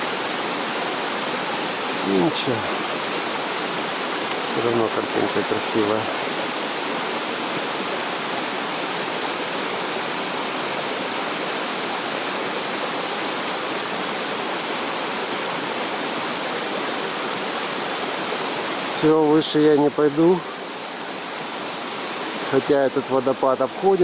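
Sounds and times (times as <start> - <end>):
small waterfall splashing: 0.0 - 24.0.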